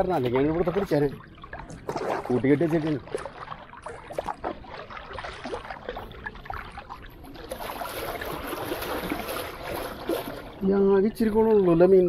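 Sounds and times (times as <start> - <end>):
paddle splashing in water: 0.0 - 10.7
water lapping against canoe: 0.0 - 12.0.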